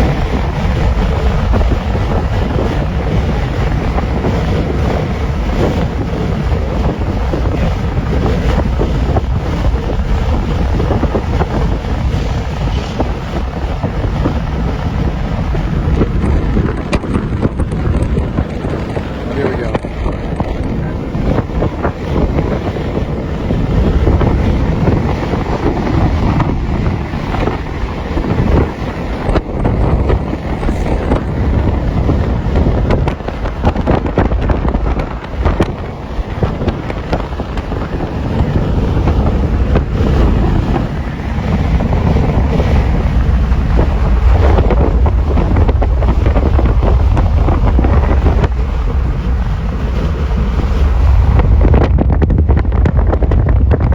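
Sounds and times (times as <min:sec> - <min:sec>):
freight train wheels rumbling on rails: 0:00.0 - 0:53.9
wind buffeting microphone: 0:00.0 - 0:53.9.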